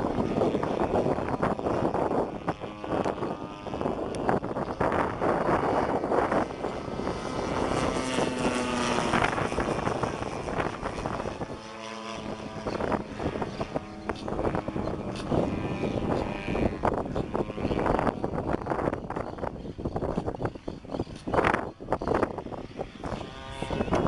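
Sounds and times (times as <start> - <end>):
model airplane engine buzzing: 0.0 - 24.0.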